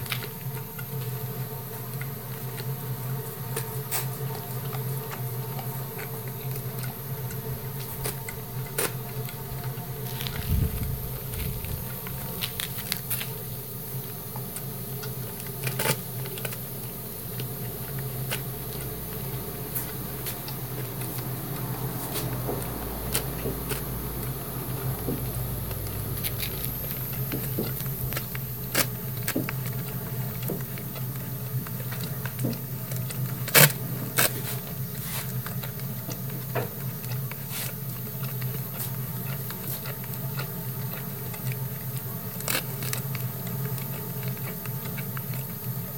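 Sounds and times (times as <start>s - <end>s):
low steady hum: 0.0s - 45.9s
dog gnawing plastic bottle: 1.8s - 45.9s.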